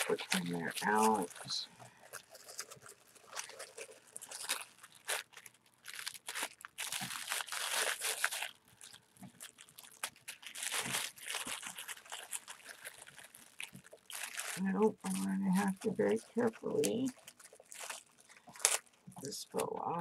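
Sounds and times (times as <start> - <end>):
paper packet crinkling: 0.0 - 20.0.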